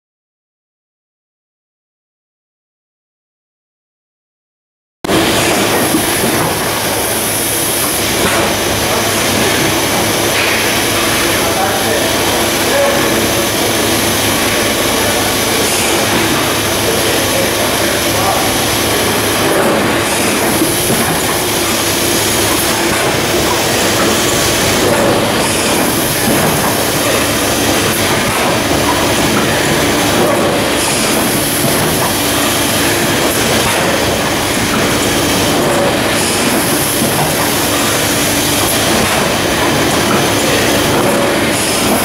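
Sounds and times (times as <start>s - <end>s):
low machine hum: 5.1s - 42.0s.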